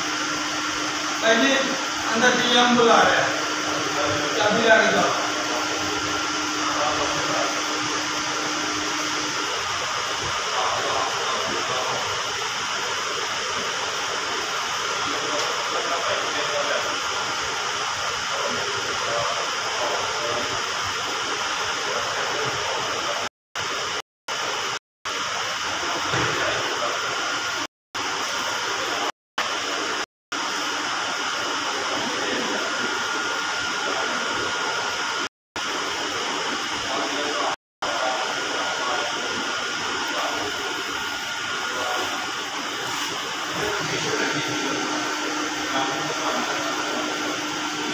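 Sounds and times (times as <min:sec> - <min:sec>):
steady rushing machine noise: 0:00.0 - 0:47.9.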